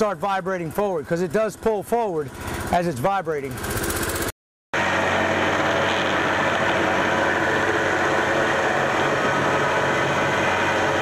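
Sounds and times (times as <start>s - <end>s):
plate compactor engine running: 0.0s - 11.0s.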